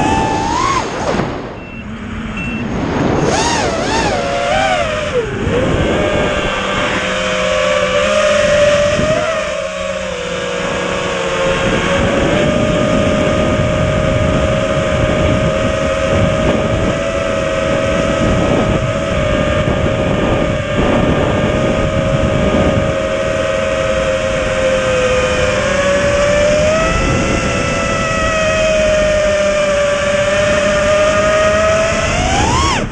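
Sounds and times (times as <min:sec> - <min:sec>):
drone motors whining: 0:00.0 - 0:32.9
rough rumbling noise: 0:00.0 - 0:32.9.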